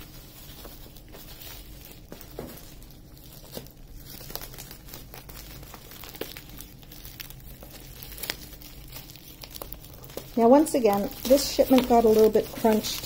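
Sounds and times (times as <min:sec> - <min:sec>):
bubble wrap crinkling: 0:00.0 - 0:13.0
tape tearing: 0:00.0 - 0:13.0.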